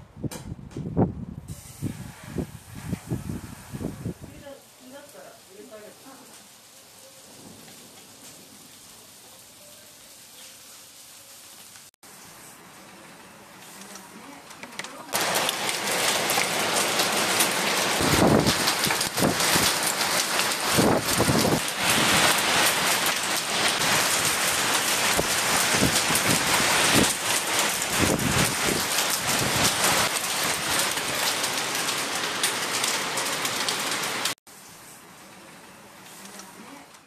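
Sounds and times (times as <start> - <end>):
hailstones pelting down: 3.0 - 11.9, 13.6 - 34.4.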